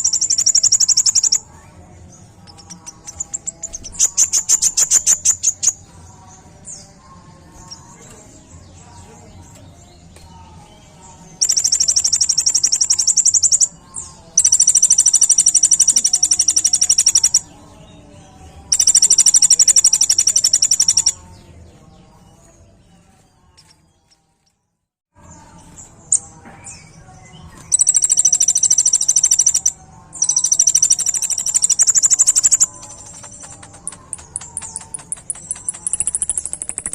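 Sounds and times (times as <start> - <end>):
bird trilling song: 0.0 - 21.5, 25.2 - 36.9.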